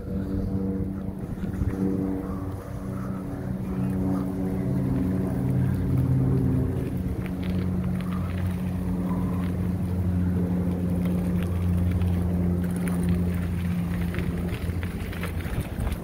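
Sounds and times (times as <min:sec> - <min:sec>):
steady low hum: 0:00.0 - 0:16.0
wind rumbling on microphone: 0:00.0 - 0:16.0.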